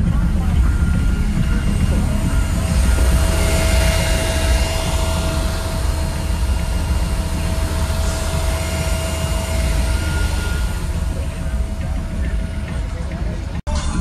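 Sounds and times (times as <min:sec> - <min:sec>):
thin steady whine: 0:00.0 - 0:14.0
van engine running: 0:00.0 - 0:14.0.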